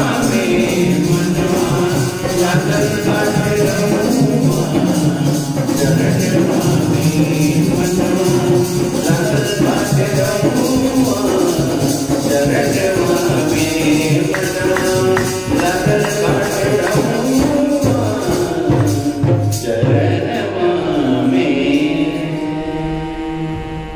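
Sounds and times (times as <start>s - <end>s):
music with percussion: 0.0s - 22.6s
person singing devotional song: 0.0s - 23.9s.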